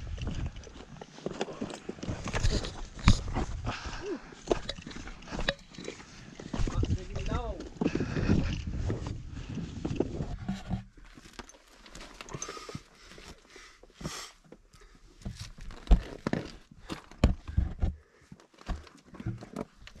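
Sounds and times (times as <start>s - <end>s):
boots and hands scraping rock: 0.0s - 20.0s.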